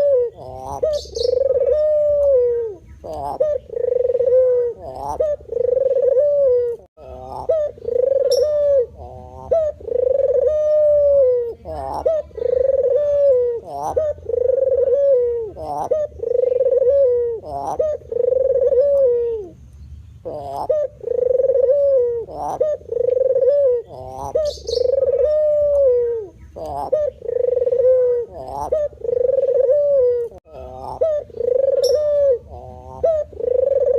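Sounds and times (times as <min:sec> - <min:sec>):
dove cooing: 0:00.0 - 0:19.6, 0:20.2 - 0:33.9.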